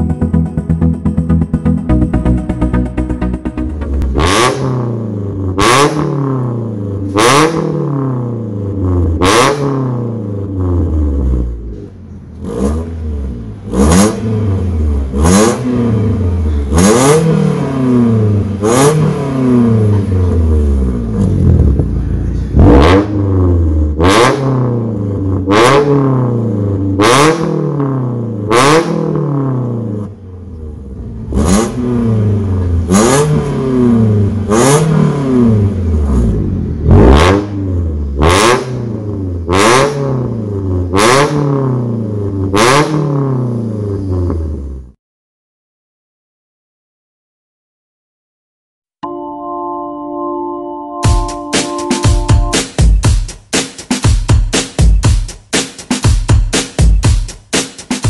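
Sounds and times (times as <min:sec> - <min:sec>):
car engine revving blips: 0:00.0 - 0:44.6, 0:50.8 - 0:53.0.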